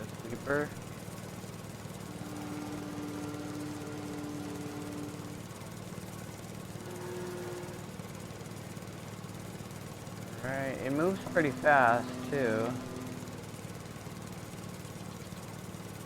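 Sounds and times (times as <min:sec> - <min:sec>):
faint whine: 0:00.0 - 0:01.1, 0:01.8 - 0:09.0, 0:10.2 - 0:15.2
riding lawn mower engine: 0:00.0 - 0:16.0.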